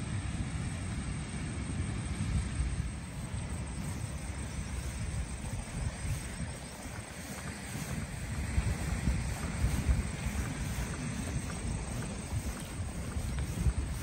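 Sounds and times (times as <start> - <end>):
wind buffeting microphone: 2.4 - 14.0.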